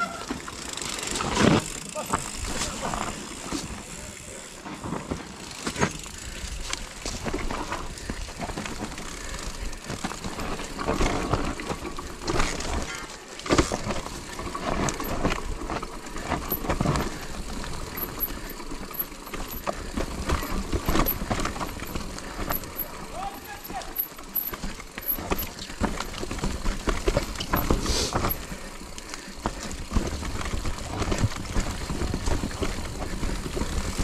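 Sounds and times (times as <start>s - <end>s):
bike knocking and rattling: 0.0s - 34.0s
bike tyres rustling through leaves: 0.0s - 34.0s.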